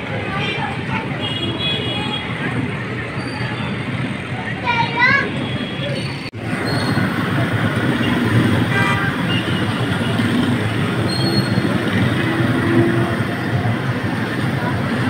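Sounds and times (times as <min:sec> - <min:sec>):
engines idling in traffic jam: 0:00.0 - 0:15.0.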